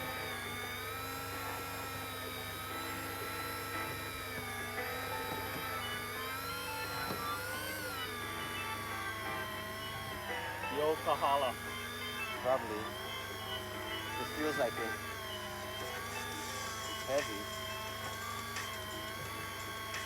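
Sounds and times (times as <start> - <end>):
electric reel motor whining: 0.0 - 20.0.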